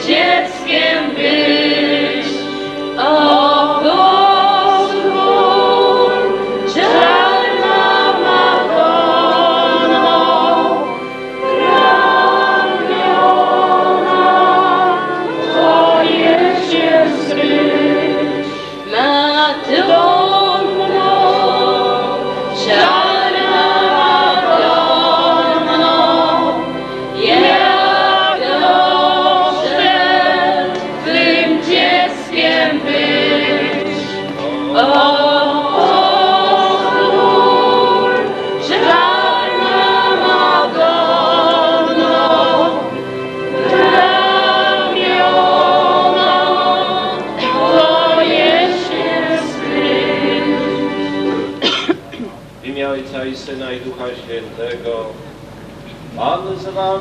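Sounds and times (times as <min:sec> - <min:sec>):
group singing in harmony: 0:00.0 - 0:52.0.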